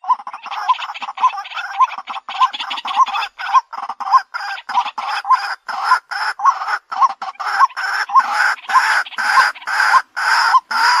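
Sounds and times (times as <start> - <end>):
waterhen harsh calls: 0.0 - 11.0.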